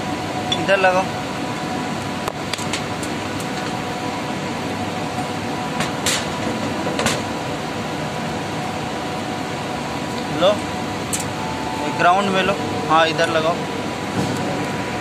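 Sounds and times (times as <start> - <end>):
air conditioning machinery drone: 0.0 - 15.0.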